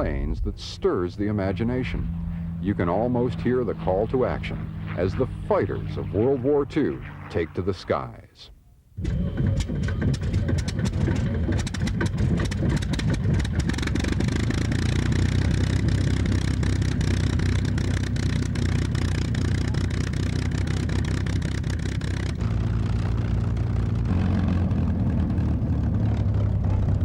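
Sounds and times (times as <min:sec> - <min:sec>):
aircraft piston engine running: 0:00.0 - 0:08.1, 0:09.0 - 0:27.0.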